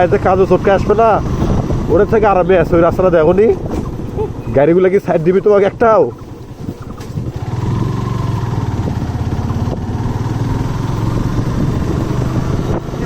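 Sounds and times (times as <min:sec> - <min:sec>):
motorcycle engine running: 0:00.0 - 0:05.5, 0:06.1 - 0:13.0.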